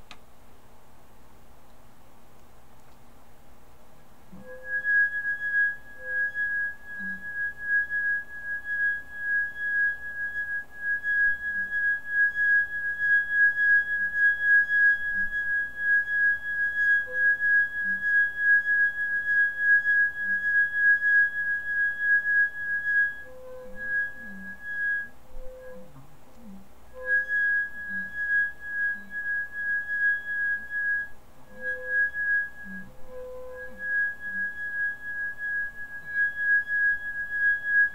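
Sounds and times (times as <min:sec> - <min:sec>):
high-pitched humming tone: 0:04.3 - 0:37.9.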